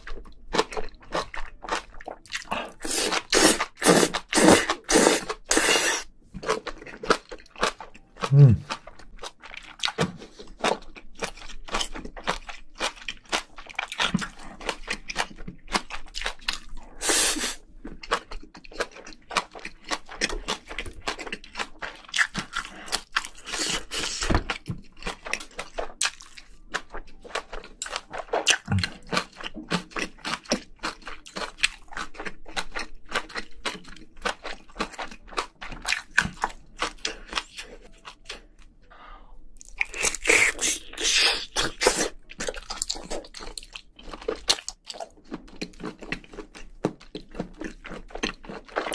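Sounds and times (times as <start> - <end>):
wet chewing and smacking: 0.0 - 17.0, 17.6 - 38.8, 39.5 - 48.9.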